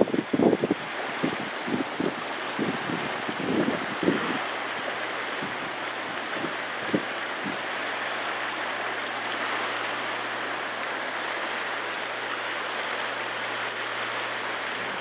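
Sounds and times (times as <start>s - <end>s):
waves on a choppy lake: 0.0s - 15.0s.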